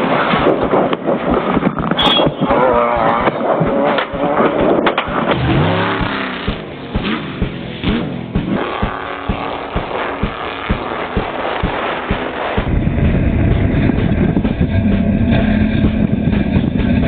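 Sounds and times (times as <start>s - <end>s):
race car engine running: 0.6s - 17.0s
rattling and knocks: 1.2s - 17.0s.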